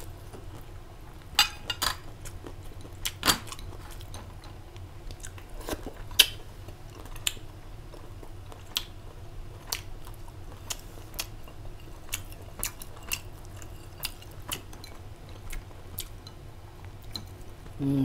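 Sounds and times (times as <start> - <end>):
low steady hum: 0.0 - 18.0
person chewing food: 2.0 - 17.8.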